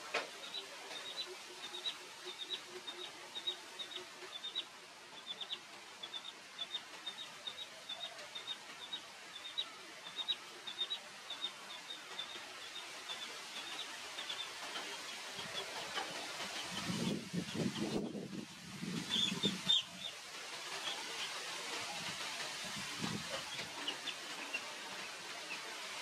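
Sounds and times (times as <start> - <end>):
chick peeping: 0.1 - 20.2, 20.8 - 25.7.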